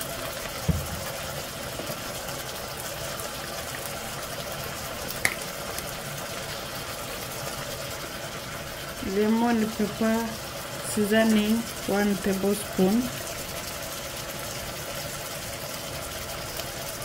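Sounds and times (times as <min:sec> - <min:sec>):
food sizzling in a pot: 0:00.0 - 0:17.0.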